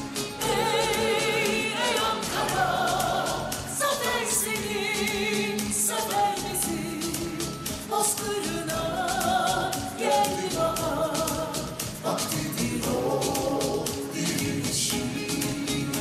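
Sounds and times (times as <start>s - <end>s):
percussion: 0.0s - 16.0s
voices singing in chorus: 0.0s - 16.0s.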